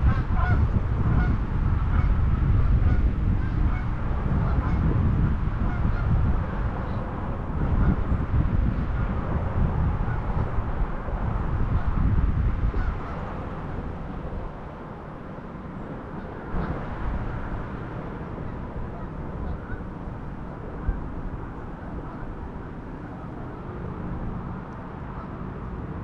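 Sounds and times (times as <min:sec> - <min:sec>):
steady low rumble: 0:00.0 - 0:26.0
wind on microphone: 0:00.0 - 0:26.0.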